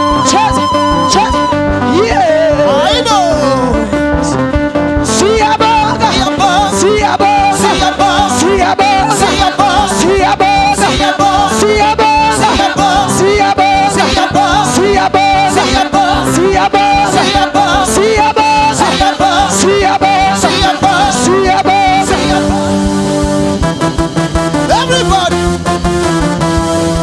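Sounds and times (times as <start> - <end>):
person singing: 0.0 - 4.4, 5.0 - 23.2
band playing worship music: 0.0 - 27.0.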